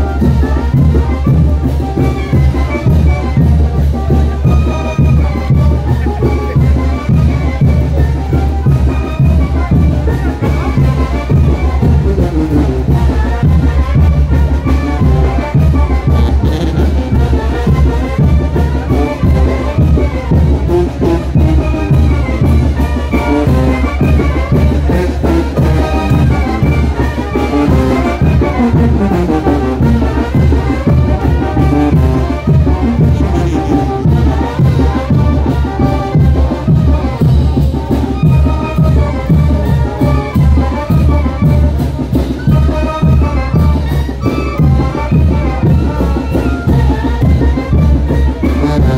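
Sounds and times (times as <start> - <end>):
brass band with drums: 0.0 - 48.9.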